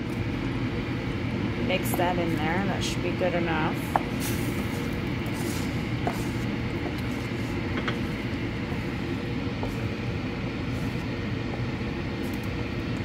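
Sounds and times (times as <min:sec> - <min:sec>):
pot boiling with bubbling: 0:00.0 - 0:13.0.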